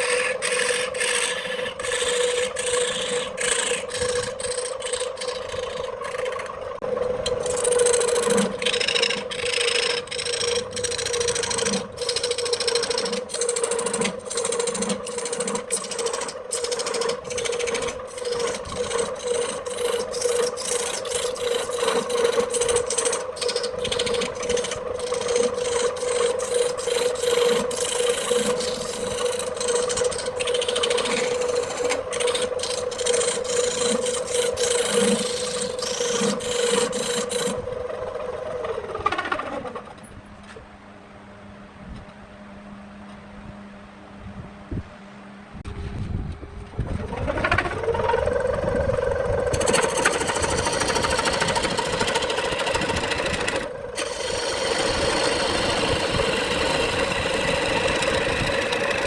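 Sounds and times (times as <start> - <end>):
wood lathe humming: 0.0 - 40.2, 46.6 - 59.0
tool scraping spinning wood: 0.0 - 40.6, 45.7 - 59.0.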